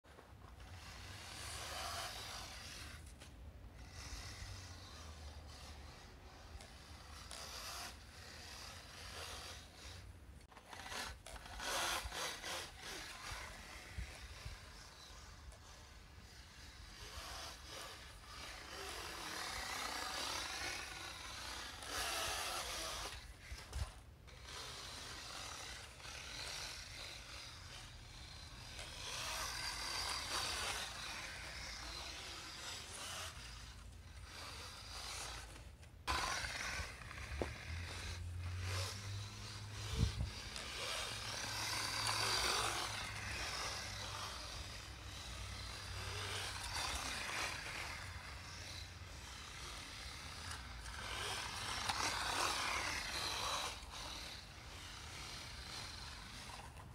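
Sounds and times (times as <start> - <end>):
toy motor whirring in surges: 0.1 - 56.9.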